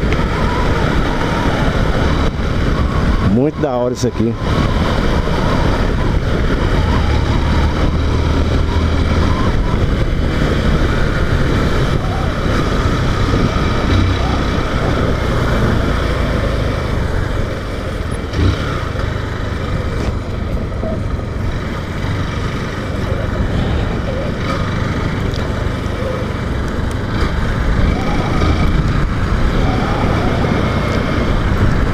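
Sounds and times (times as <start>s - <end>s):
motorcycle engine: 0.0s - 31.9s
road noise: 0.0s - 31.9s
wind on microphone: 0.0s - 31.9s.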